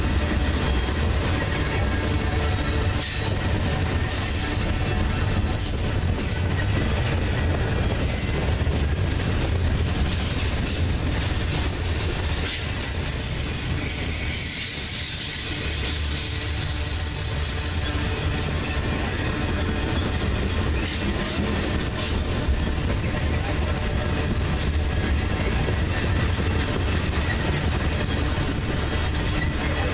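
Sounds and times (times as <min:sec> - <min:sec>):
freight train rumbling on rails: 0:00.0 - 0:29.9.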